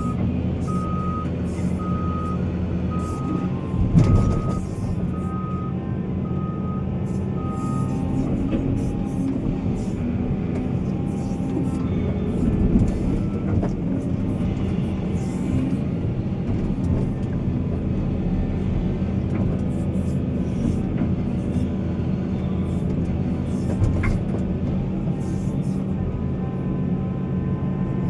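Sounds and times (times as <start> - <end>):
heavy diesel machinery running: 0.0 - 28.0.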